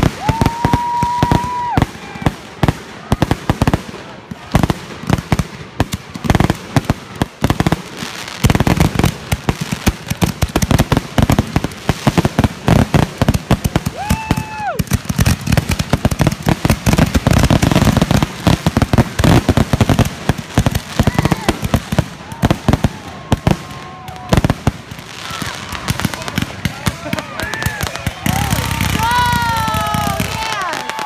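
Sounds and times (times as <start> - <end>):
fireworks barrage of bangs: 0.0 - 31.0.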